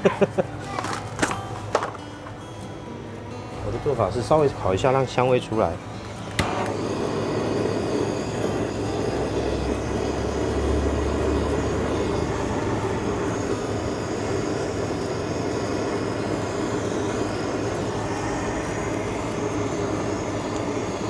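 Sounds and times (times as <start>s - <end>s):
blowtorch flame hissing: 3.8s - 21.0s.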